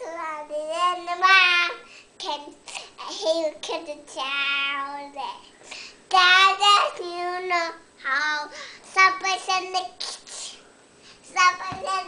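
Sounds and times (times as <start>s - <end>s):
young boy singing: 0.0s - 5.4s, 6.1s - 10.6s, 11.3s - 12.0s.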